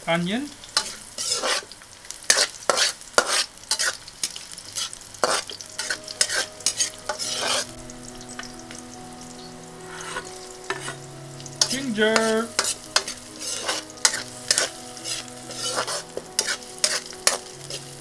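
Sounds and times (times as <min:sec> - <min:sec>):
garlic and onion sizzling in oil: 0:00.0 - 0:18.0
spatula scraping a pan: 0:00.8 - 0:08.7, 0:09.8 - 0:18.0.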